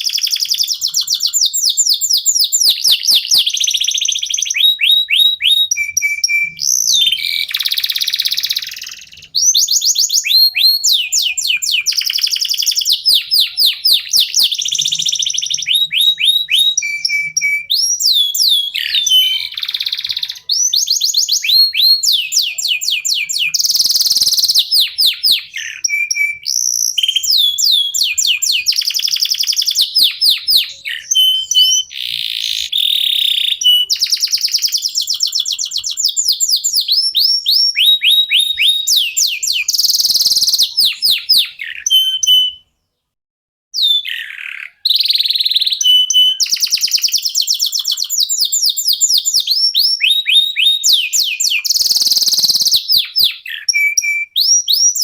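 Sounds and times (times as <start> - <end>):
canary singing: 0.0 - 43.2, 43.8 - 55.0.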